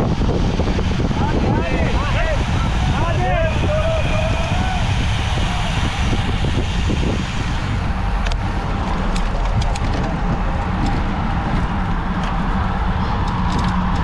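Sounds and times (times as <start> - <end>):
deep road rumble: 0.0 - 14.0
wind buffeting microphone: 0.0 - 14.0.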